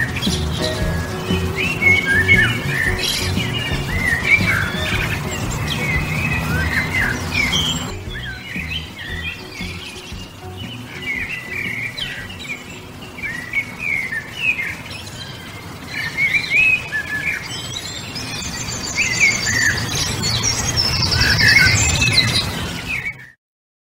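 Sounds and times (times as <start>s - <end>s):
small birds chirping: 0.0s - 23.4s.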